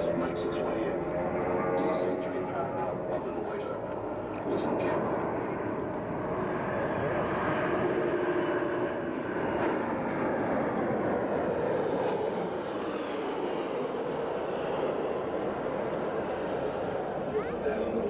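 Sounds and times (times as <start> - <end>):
jet airliner flying past: 0.0 - 18.0.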